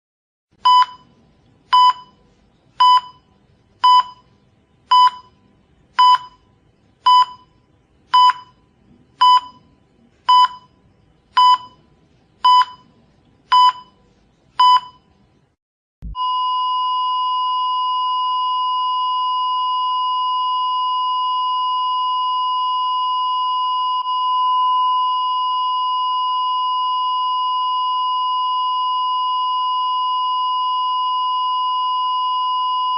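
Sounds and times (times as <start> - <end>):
heart monitor beeping: 0.6 - 2.2, 2.8 - 5.4, 6.0 - 10.8, 11.4 - 14.0, 14.6 - 15.1, 16.0 - 32.9.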